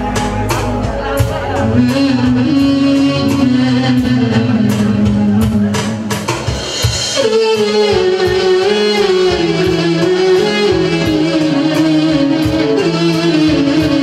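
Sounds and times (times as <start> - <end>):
clarinet melody: 0.0 - 6.4, 7.1 - 14.0
drum beat: 0.0 - 14.0
live band music: 0.0 - 14.0.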